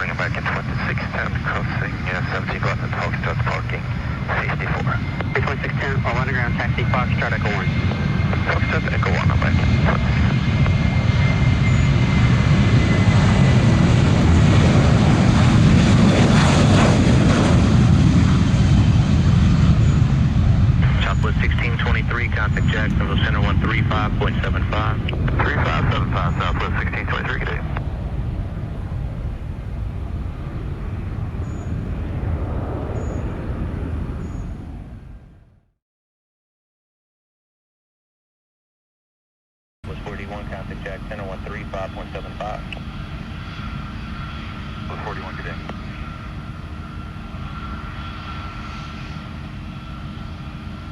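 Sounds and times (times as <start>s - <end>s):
jet engines low rumble: 0.0s - 35.8s, 39.8s - 50.9s.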